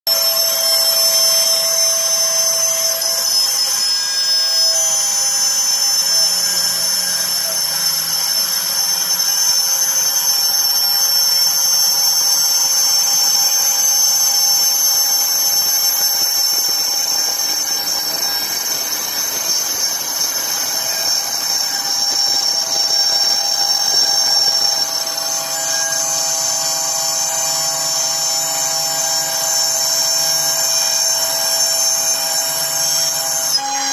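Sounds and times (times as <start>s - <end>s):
machine high whine: 0.1s - 33.9s.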